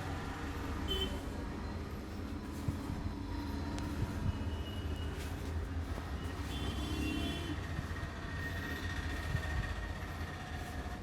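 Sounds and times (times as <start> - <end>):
low rumble of moving vehicle: 0.0 - 11.0.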